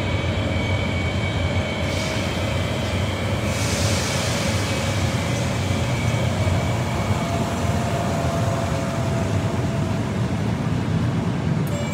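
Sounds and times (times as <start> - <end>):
train motor whine: 0.0 - 10.6
train wheels rumbling: 0.0 - 11.8.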